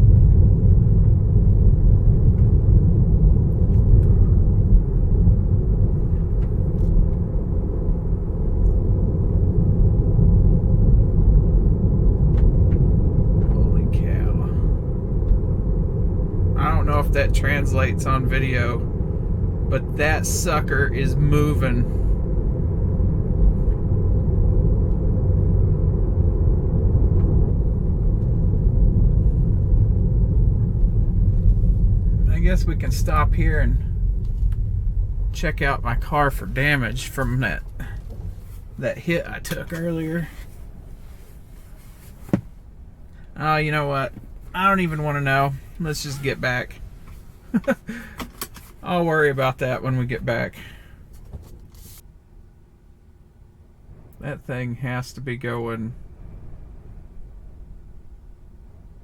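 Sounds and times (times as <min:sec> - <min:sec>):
tyre and wind noise in car: 0:00.0 - 0:52.2.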